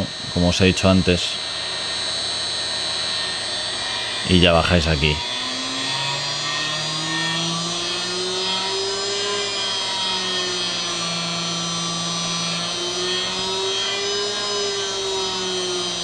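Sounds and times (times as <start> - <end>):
spindle motor whine: 0.0 - 16.0.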